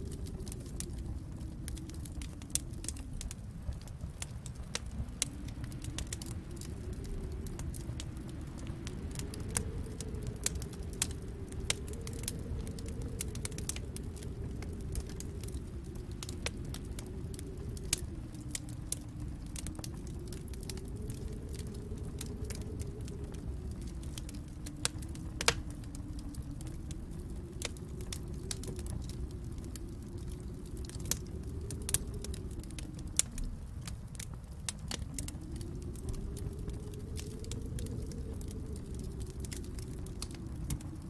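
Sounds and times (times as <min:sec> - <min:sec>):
low fire rumble: 0:00.0 - 0:41.0
wood fire crackling and popping: 0:00.0 - 0:41.0.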